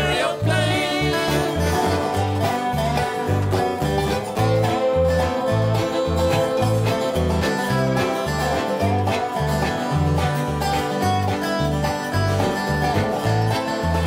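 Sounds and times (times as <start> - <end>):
bass line boom-chick rhythm: 0.0 - 14.0
bluegrass band instrumental: 0.0 - 14.0.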